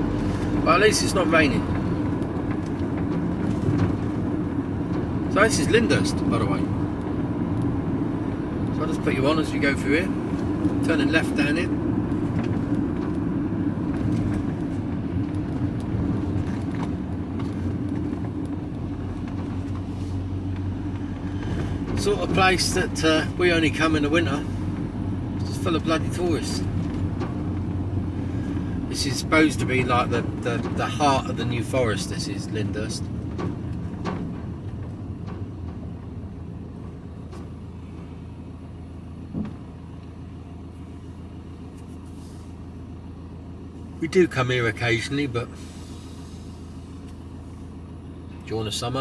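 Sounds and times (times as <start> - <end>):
road noise: 0.0 - 49.0
vehicle engine hum: 0.0 - 49.0.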